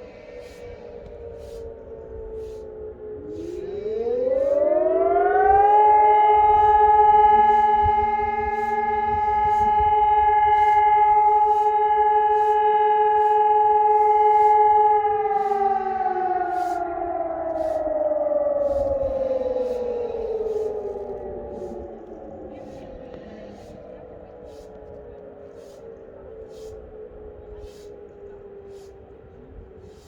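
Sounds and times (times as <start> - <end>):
outdoor warning siren: 0.0 - 30.0.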